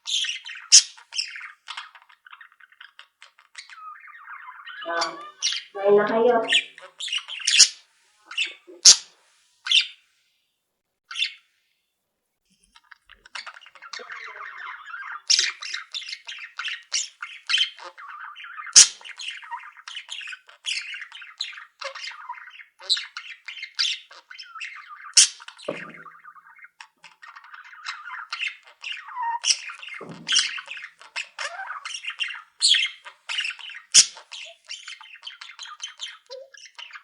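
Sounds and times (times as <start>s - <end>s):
budgerigars warbling chatter: 0.0s - 9.1s, 9.7s - 10.0s, 12.8s - 37.0s
budgerigars squawking: 0.1s - 9.1s, 13.1s - 37.0s.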